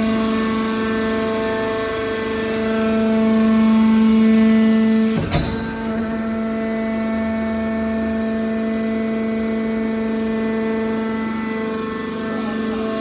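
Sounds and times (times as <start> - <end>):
hydraulic motor and pump humming: 0.0 - 13.0.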